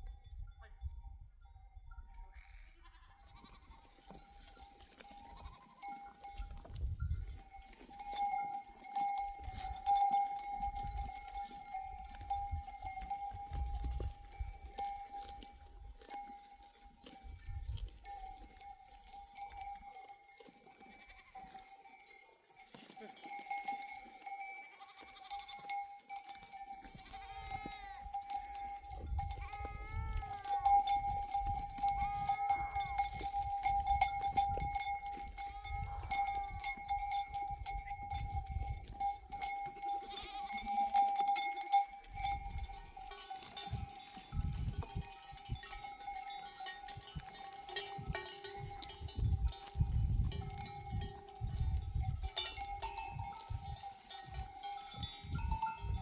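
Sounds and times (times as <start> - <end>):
sheep bells ringing: 0.0 - 56.0.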